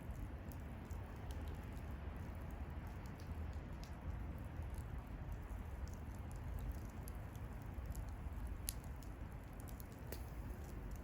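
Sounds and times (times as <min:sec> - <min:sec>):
bonfire crackling pops: 0:00.0 - 0:11.0
low fire rumble: 0:00.0 - 0:11.0.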